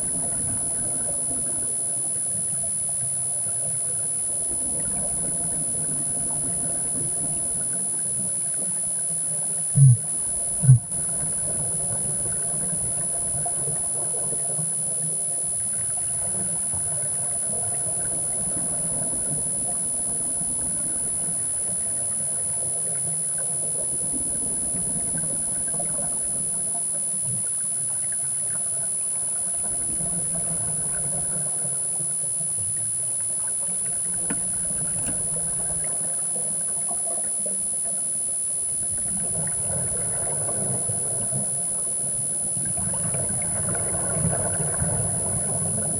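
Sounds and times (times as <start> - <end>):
underwater low hum and hiss: 0.0 - 45.9.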